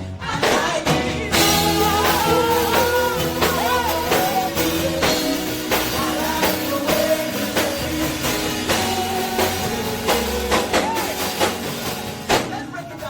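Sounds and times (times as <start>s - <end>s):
drum kit beat: 0.0s - 13.0s
gospel band music: 0.0s - 13.0s.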